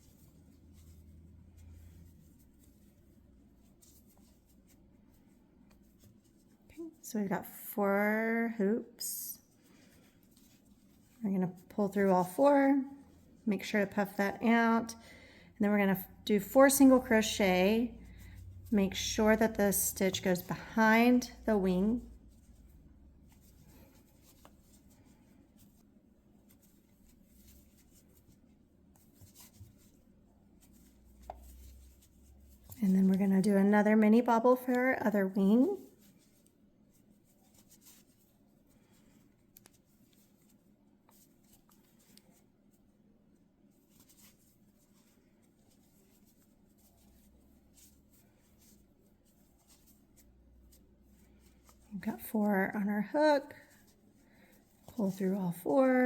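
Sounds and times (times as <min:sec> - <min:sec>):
scratchy rustling: 0:00.0 - 0:07.1, 0:15.9 - 0:42.9, 0:43.7 - 0:56.0.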